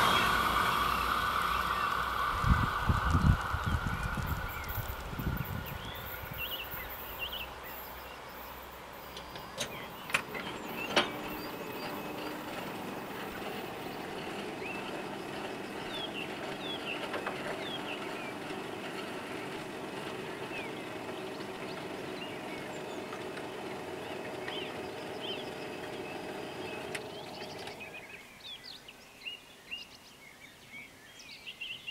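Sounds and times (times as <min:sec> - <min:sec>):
barrier motor hum: 0:00.0 - 0:28.3
birds chirping: 0:00.0 - 0:31.9.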